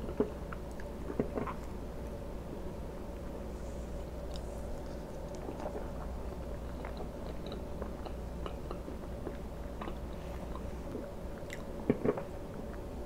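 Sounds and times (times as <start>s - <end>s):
chewing food: 0.1s - 2.2s, 4.2s - 12.9s.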